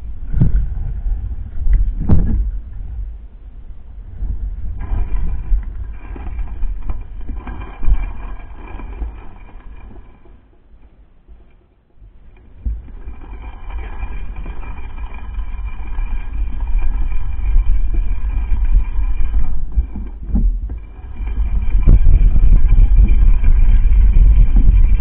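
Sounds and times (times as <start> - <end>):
wind noise: 0.0 - 10.4, 11.3 - 25.0
bike tyres rumbling on gravel: 0.0 - 11.3, 12.0 - 25.0.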